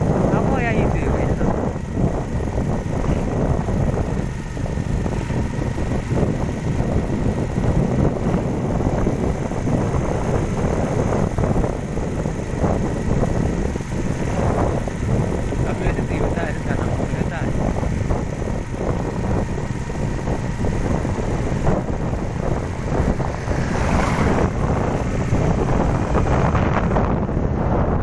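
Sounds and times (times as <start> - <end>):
motorbike engine cruising: 0.0 - 28.0
wind buffeting microphone: 0.0 - 28.0.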